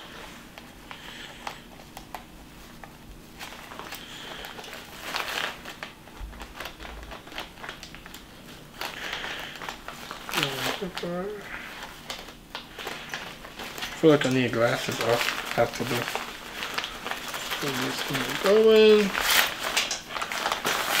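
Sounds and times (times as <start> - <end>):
nylon fabric rustling: 2.4 - 21.0.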